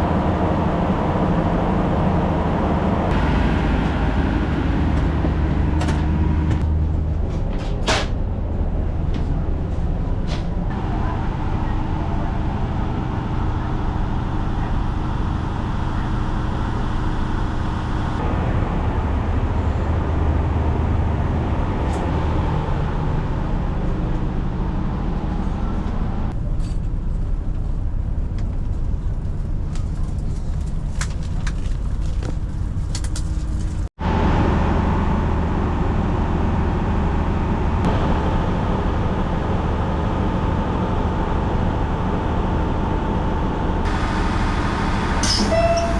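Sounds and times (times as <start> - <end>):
diesel train rumbling: 0.0 - 45.9.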